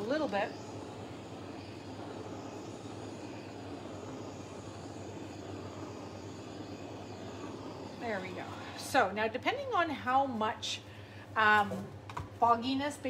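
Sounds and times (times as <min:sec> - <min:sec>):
torch flame hissing: 0:00.0 - 0:11.7.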